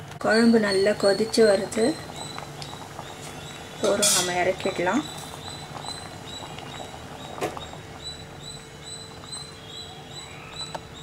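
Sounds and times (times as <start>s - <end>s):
stew bubbling in a pot: 0.0s - 11.0s.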